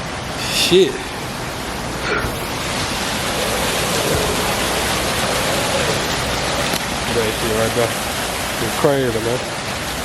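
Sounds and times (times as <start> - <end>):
steady rushing noise: 0.0 - 10.0.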